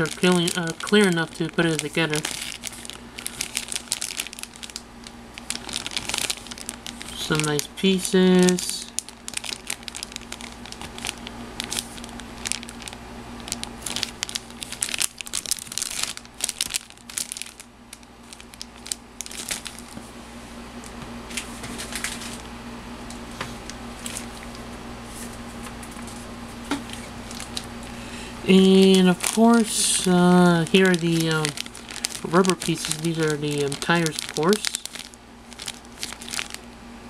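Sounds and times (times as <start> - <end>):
plastic bags crinkling: 0.0 - 20.0, 21.3 - 22.4, 23.6 - 36.8.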